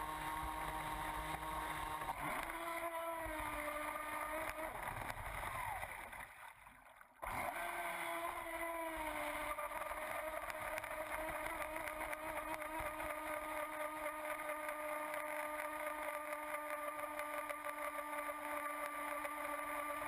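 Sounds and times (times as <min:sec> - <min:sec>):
electric motor whining: 0:00.0 - 0:06.2, 0:07.2 - 0:20.0.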